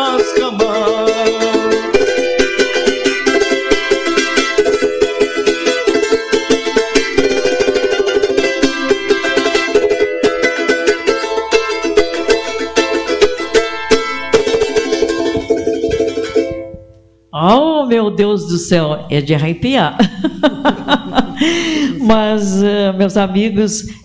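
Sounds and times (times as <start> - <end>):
charango strumming: 0.0 - 17.3, 20.4 - 22.6.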